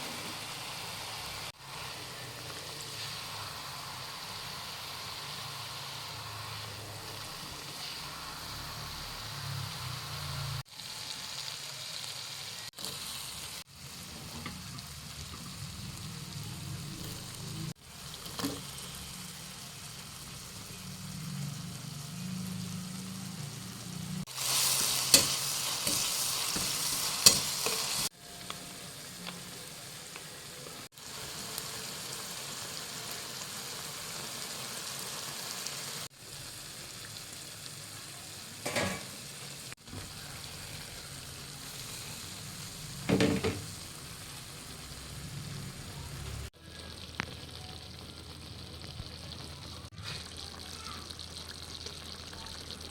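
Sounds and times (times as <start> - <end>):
food sizzling in a pan: 0.0 - 52.9.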